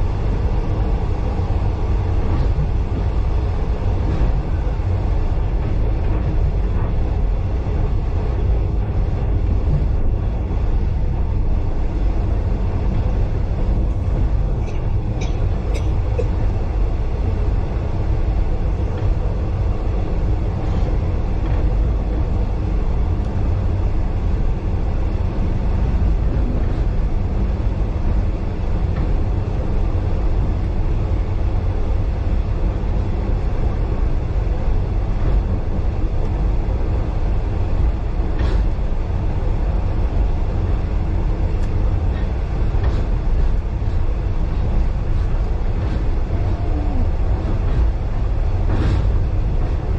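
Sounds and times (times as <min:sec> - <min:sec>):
train carriage rumbling on track: 0:00.0 - 0:49.9.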